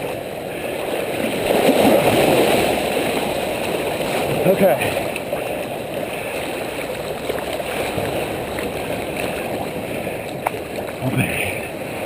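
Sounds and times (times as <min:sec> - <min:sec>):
water churning and sloshing: 0:00.0 - 0:12.0.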